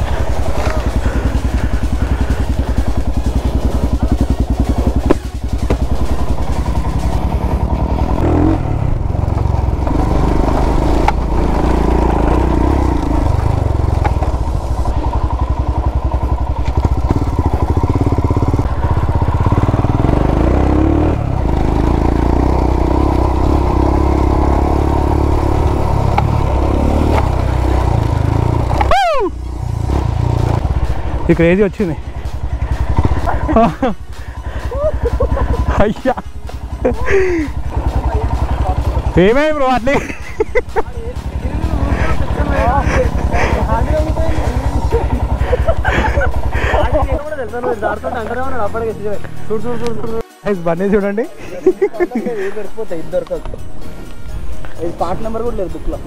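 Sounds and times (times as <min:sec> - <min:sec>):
motorcycle engine revving: 0:00.0 - 0:50.2.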